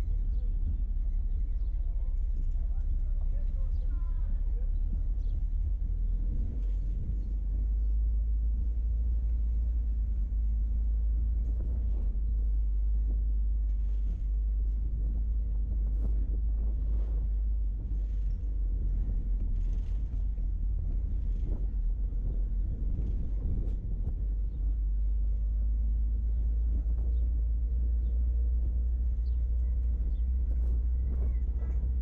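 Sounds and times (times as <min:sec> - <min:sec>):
car driving on road: 0:00.0 - 0:32.0.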